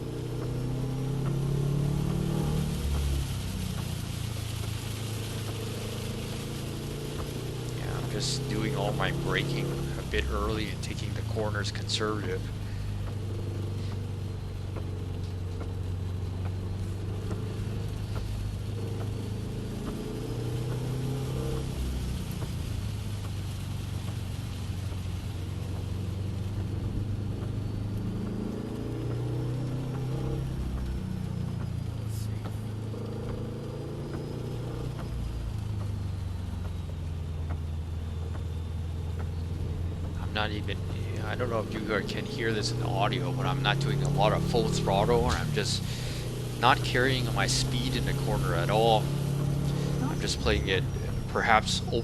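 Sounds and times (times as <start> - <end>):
car engine running: 0.0 - 52.0
faint ticks: 0.1 - 44.4.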